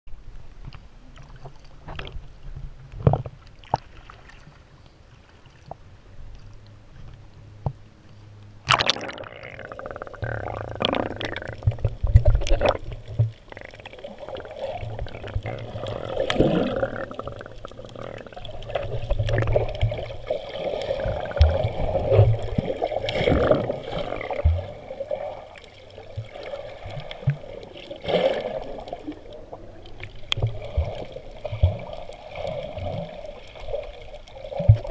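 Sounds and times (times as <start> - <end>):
muffled water sloshing and gurgling: 0.1 - 34.9.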